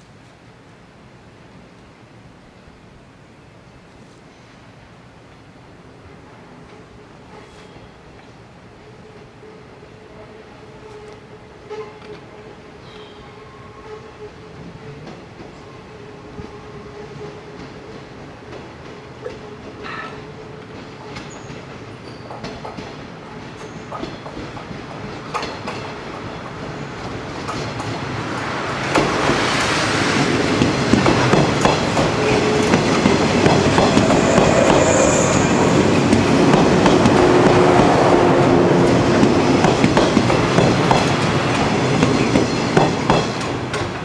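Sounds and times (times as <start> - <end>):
electric train passing: 4.7 - 44.0.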